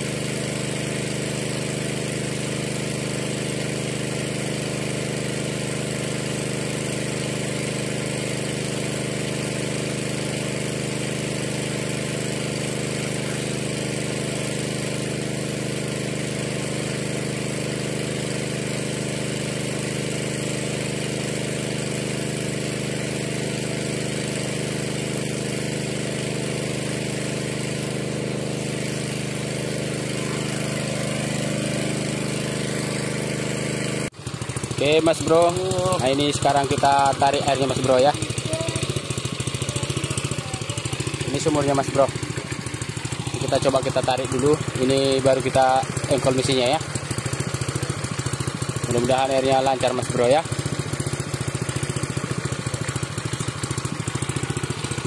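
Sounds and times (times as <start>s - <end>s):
small engine running steadily: 0.0s - 55.0s.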